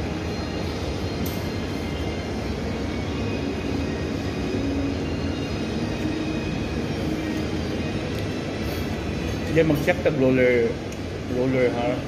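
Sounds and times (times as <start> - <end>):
restaurant room noise: 0.0 - 12.0.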